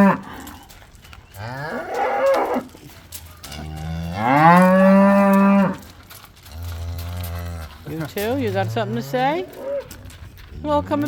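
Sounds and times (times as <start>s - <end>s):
cattle mooing: 0.0s - 0.7s, 1.3s - 11.0s.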